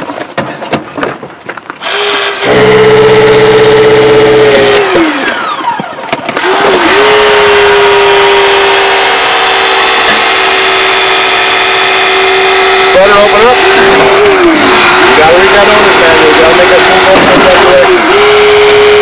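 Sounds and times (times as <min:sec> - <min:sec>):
hydraulic rescue tool whining: 0:01.8 - 0:19.0.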